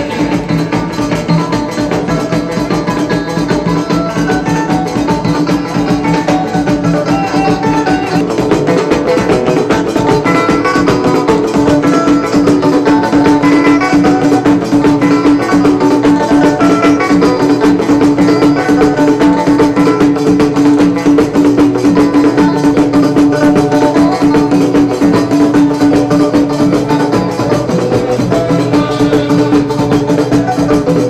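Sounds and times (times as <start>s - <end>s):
banjo plucking a melody: 0.0s - 31.0s
hand drums: 0.0s - 31.0s
held drone note: 0.0s - 31.0s.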